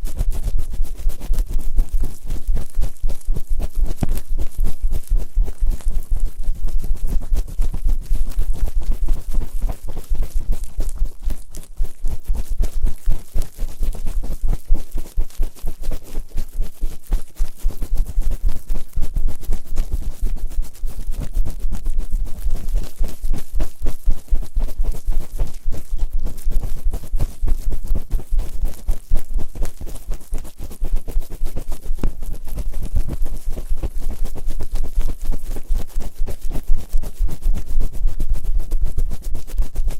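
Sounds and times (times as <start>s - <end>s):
rubbing and scratching on microphone: 0.0s - 39.9s.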